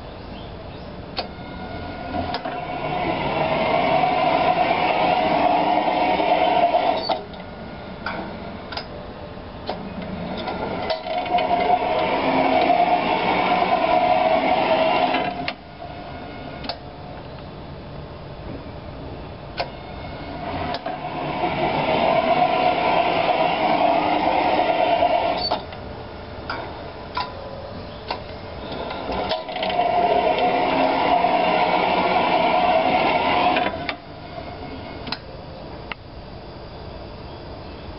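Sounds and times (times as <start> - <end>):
machine drive whining: 0.0 - 37.9.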